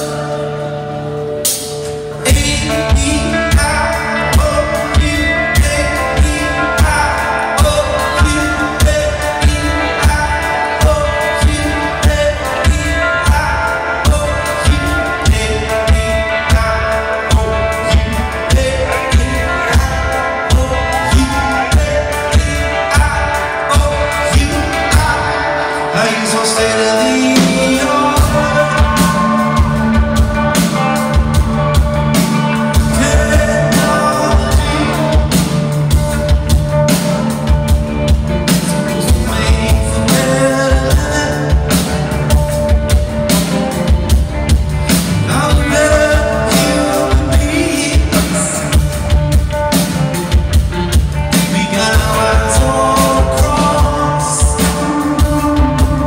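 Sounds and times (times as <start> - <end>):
drum kit beat: 0.0 - 56.0
electric guitar: 0.0 - 56.0
low bass notes: 0.0 - 56.0
person singing: 0.0 - 56.0.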